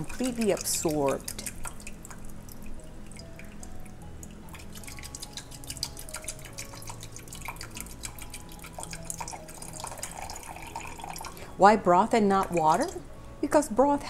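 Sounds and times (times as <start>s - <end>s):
liquid dripping and splashing: 0.0s - 11.6s, 12.2s - 13.2s
broth bubbling in pot: 0.0s - 13.8s.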